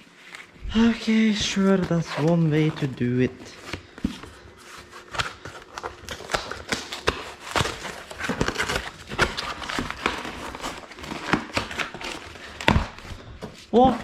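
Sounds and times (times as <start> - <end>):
packaging rustling: 0.0 - 14.0.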